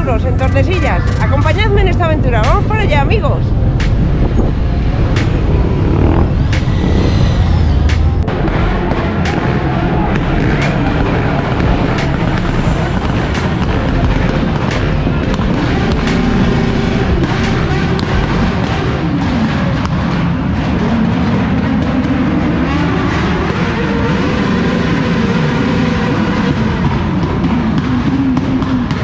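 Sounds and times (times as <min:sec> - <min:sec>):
exhaust pops: 0:00.0 - 0:29.0
motorcycle engines revving: 0:00.0 - 0:29.0.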